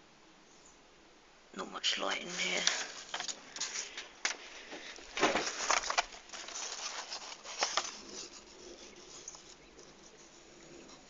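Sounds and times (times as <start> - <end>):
handling clicks and rustles: 2.1 - 11.0.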